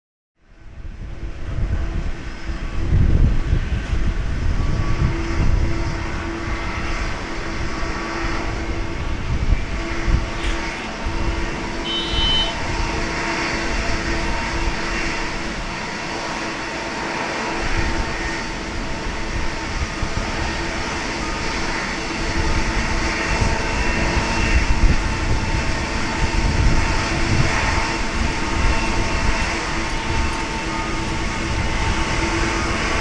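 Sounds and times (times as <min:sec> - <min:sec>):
jet engines rumbling: 0:00.4 - 0:33.0.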